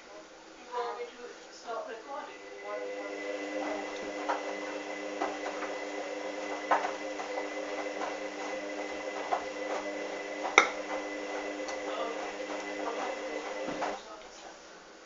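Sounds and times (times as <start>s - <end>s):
washing machine motor hum: 1.6s - 14.1s.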